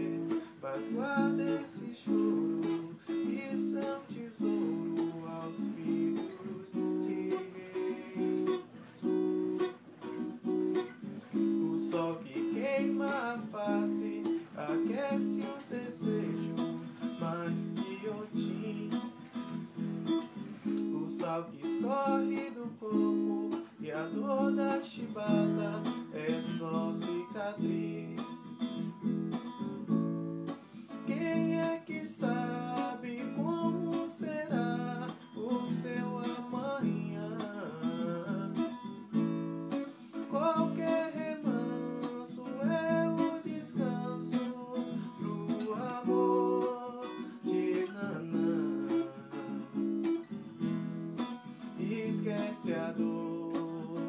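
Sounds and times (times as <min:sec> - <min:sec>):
man singing: 0:00.0 - 0:09.1, 0:11.3 - 0:29.1, 0:30.9 - 0:50.2, 0:51.5 - 0:54.0
acoustic guitar strumming: 0:00.0 - 0:54.0.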